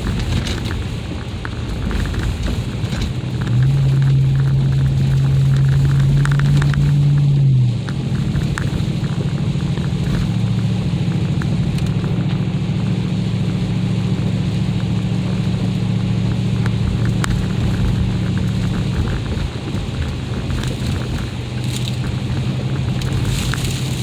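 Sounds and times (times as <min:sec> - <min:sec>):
car engine and road drone: 0:00.0 - 0:24.0
small ticks and crackles: 0:00.0 - 0:24.0.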